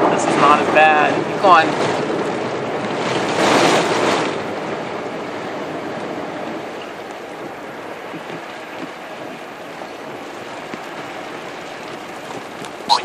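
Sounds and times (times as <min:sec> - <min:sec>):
tyres ploughing through water: 0:00.0 - 0:13.0
water splashing against car: 0:00.0 - 0:13.0.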